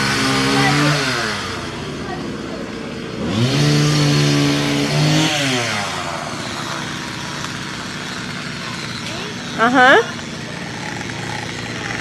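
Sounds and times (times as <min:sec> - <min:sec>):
chainsaw revving and idling: 0:00.0 - 0:12.0.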